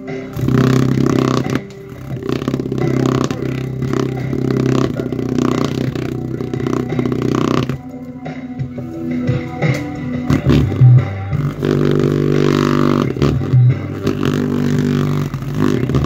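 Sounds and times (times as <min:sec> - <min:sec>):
bass-heavy music through speaker: 0:00.0 - 0:16.0.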